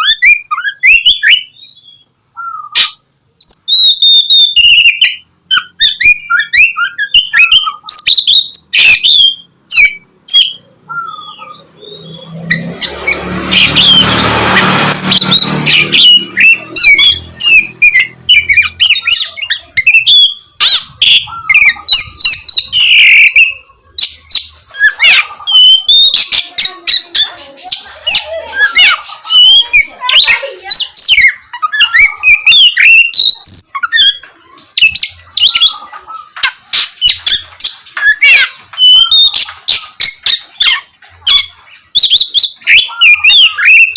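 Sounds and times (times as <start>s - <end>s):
bird singing varied whistles: 0.0s - 12.6s, 14.9s - 26.4s, 28.6s - 34.2s, 37.0s - 43.9s.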